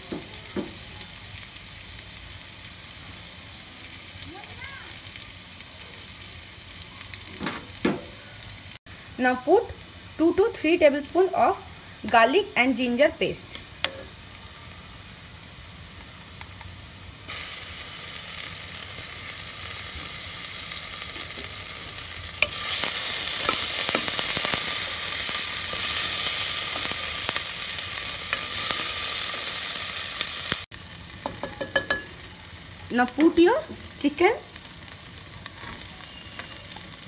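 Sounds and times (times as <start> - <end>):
paste sizzling in oil: 0.0 - 37.0.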